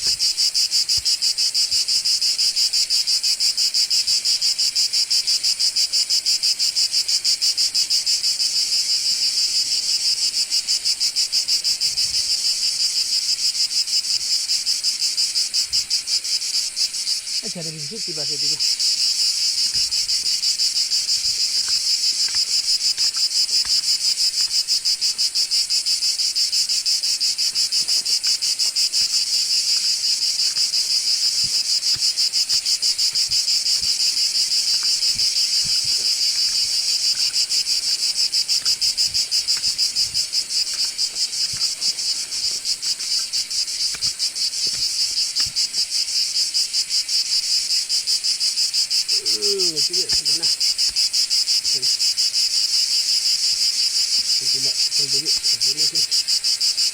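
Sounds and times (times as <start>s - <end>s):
cicadas singing: 0.0s - 56.9s.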